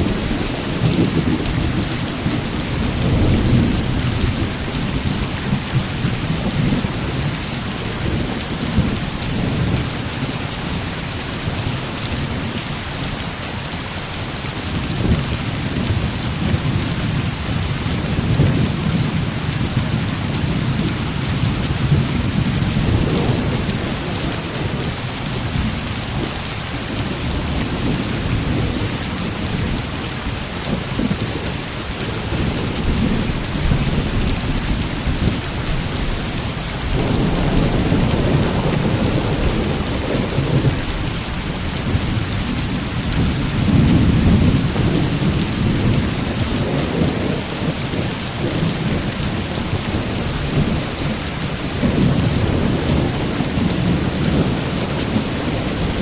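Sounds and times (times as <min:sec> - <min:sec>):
low thunder rumbling: 0:00.0 - 0:12.6, 0:14.7 - 0:56.0
heavy rain: 0:00.0 - 0:56.0.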